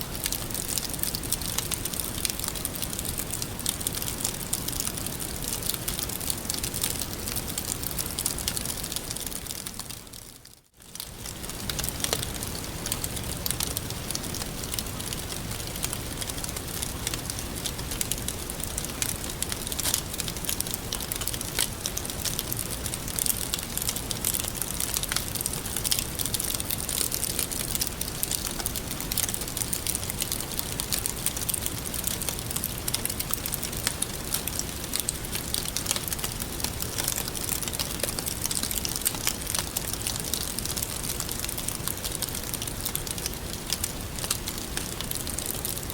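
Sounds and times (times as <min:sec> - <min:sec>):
continuous hiss: 0:00.0 - 0:45.9
wood fire crackling: 0:00.0 - 0:45.9.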